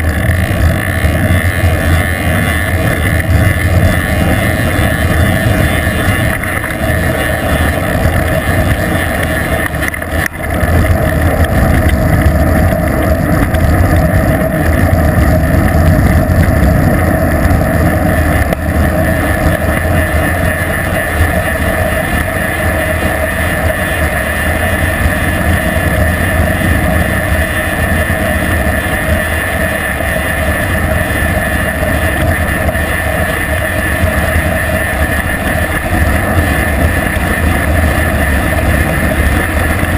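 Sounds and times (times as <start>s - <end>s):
wind rushing over camera: 0.0s - 39.9s.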